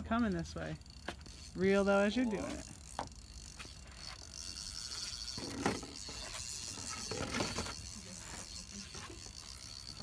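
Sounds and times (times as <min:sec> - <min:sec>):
fishing reel drag buzzing: 0:00.0 - 0:10.0.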